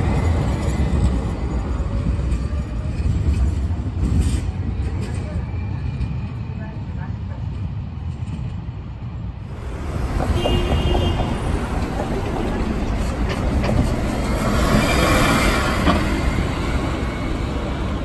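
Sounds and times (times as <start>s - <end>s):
bus engine and tyre noise: 0.0s - 18.0s
city traffic: 0.0s - 18.0s.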